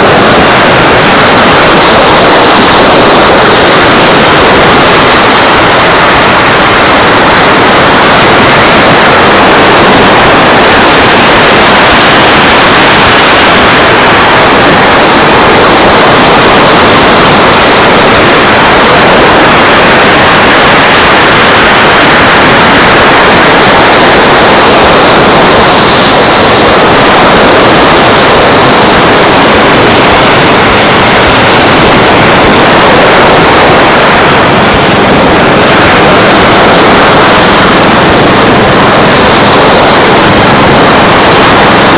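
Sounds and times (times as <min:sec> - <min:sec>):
surf rushing: 0:00.0 - 0:41.9
wind: 0:00.0 - 0:41.9.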